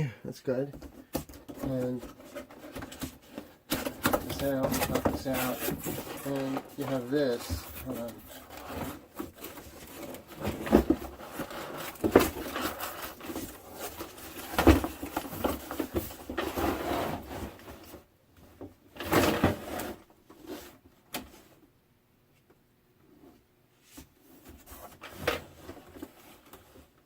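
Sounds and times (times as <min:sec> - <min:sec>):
cardboard rustling and scraping: 0:00.8 - 0:21.6, 0:23.2 - 0:27.0.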